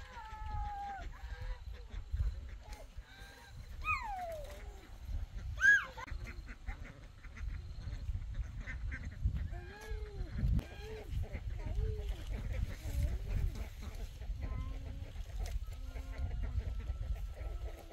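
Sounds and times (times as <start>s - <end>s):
farm fowl calling: 0.0s - 17.9s.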